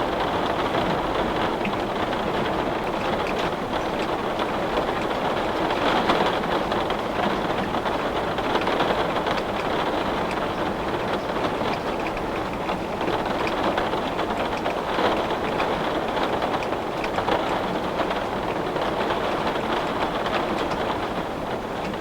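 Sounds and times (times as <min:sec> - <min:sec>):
heavy rain on window glass: 0:00.0 - 0:22.0.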